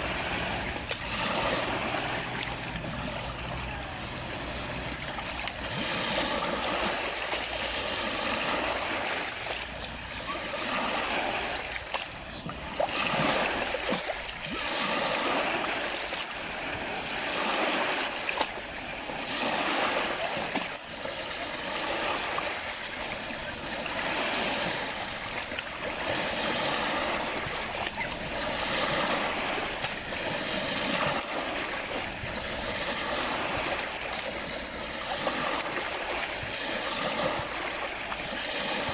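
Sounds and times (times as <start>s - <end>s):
lake waves lapping: 0.0s - 38.9s.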